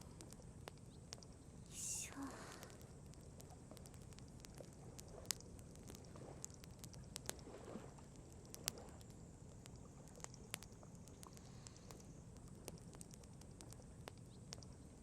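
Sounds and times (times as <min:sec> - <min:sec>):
campfire crackling: 0:00.0 - 0:15.0
faint steady hiss: 0:00.0 - 0:15.0.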